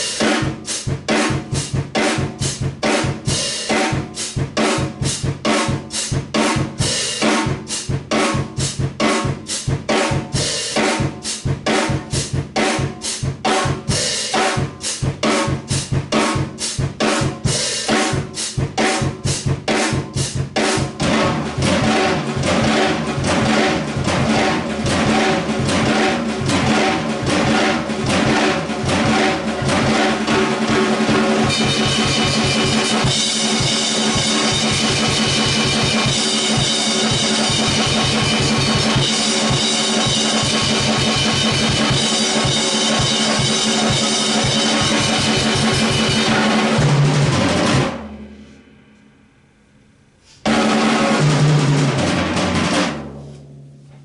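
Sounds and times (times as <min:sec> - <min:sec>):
drum kit playing steady beat: 0:00.0 - 0:48.6, 0:50.2 - 0:53.4.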